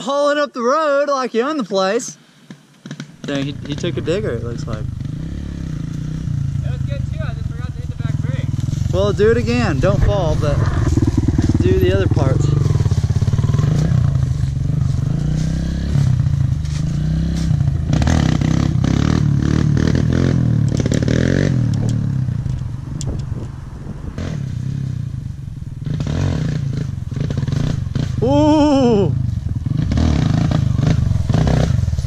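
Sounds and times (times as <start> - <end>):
dirt bike engine revving: 2.8 - 22.5, 24.0 - 32.0.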